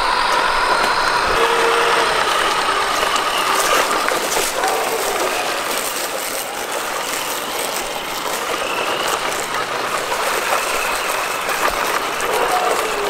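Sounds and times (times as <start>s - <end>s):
electric motor whining: 0.0s - 13.0s
tyres crunching over wood chips: 0.0s - 13.0s.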